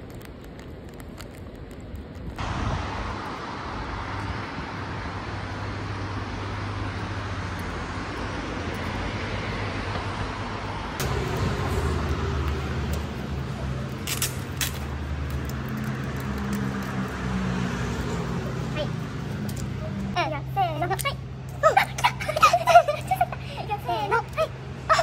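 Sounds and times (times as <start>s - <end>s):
road traffic noise: 0.0s - 25.0s
low engine hum: 2.3s - 25.0s.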